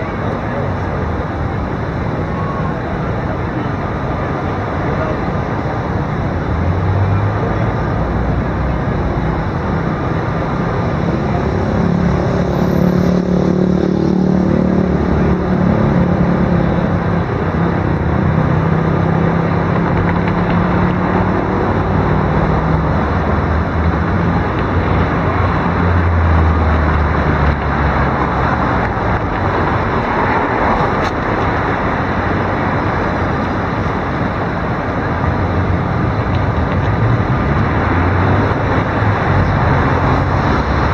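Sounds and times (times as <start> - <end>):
city traffic cars passing: 0.0 - 40.9.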